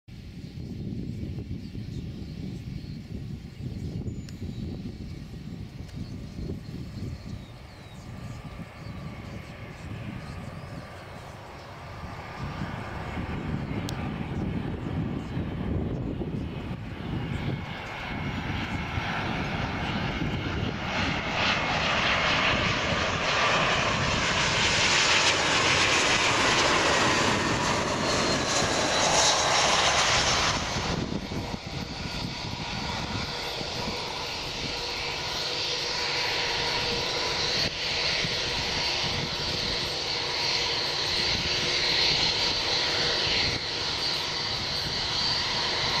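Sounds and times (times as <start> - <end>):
jet engines whining on landing: 0.1 - 46.0.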